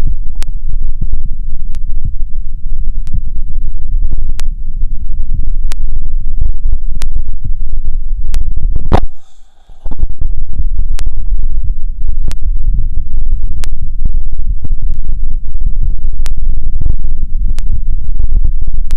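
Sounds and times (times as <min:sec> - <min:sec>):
heart sounds through stethoscope: 0:00.0 - 0:18.9.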